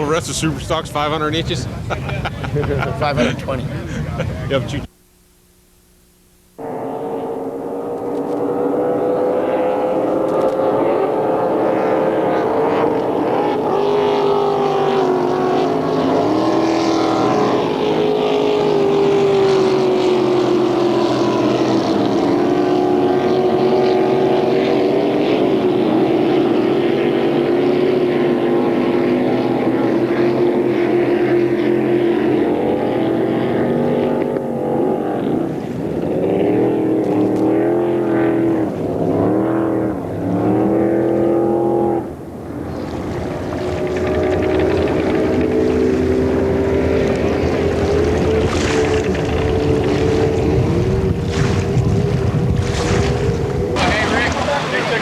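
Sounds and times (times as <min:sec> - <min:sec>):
racing boat engine revving: 0:00.0 - 0:05.0, 0:06.5 - 0:55.0.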